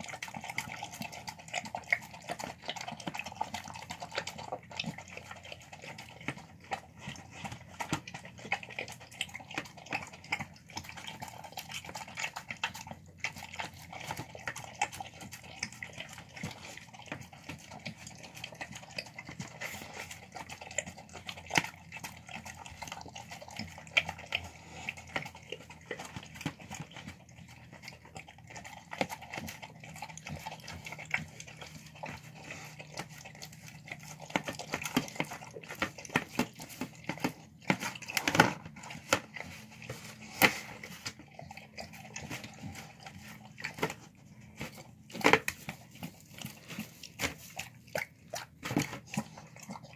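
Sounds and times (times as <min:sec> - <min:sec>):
dog licking and chewing: 0:00.0 - 0:49.9.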